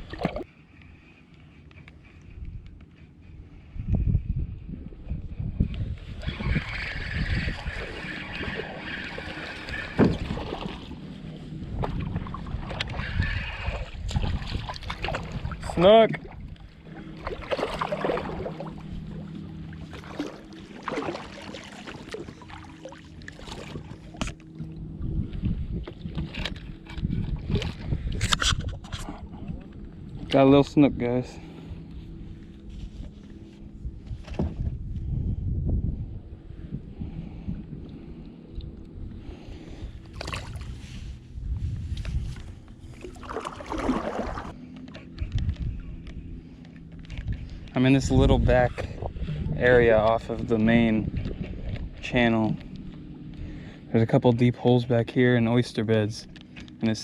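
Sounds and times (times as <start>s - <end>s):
wind rumble on microphone: 0.0s - 22.4s, 23.1s - 57.0s
steady low hum: 0.0s - 57.0s
water around kayak: 0.0s - 57.0s.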